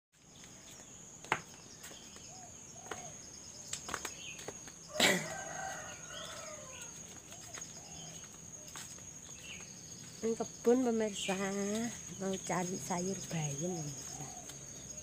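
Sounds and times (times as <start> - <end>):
insect buzz: 0.2 - 15.0.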